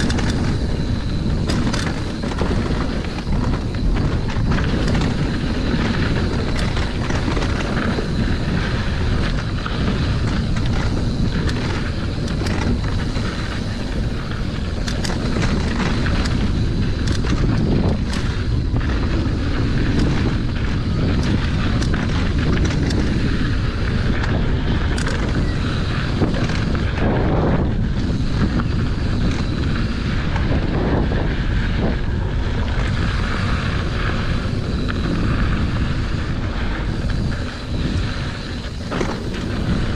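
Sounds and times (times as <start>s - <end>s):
bike clicks and knocks: 0.0s - 39.9s
bike tyres rolling on dirt: 0.0s - 39.9s
wind buffeting microphone: 0.0s - 39.9s.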